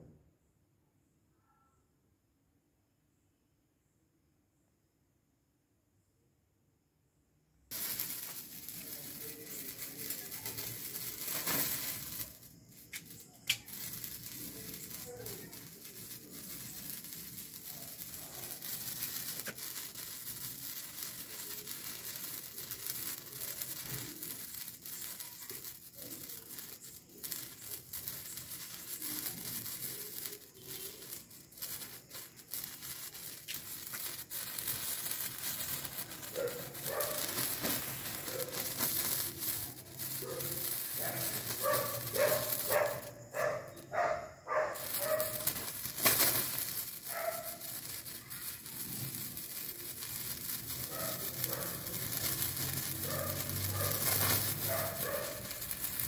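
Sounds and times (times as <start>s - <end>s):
firework fizzing and crackling: 7.7s - 56.0s.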